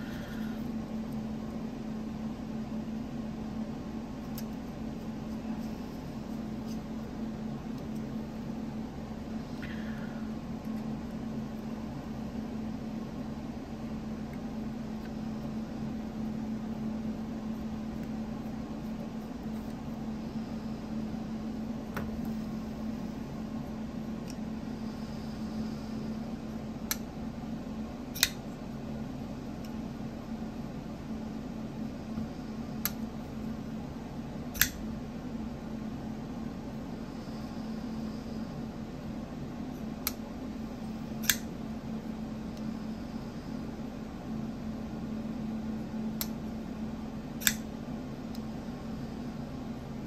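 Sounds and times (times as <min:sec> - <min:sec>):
low background hum: 0:00.0 - 0:50.0.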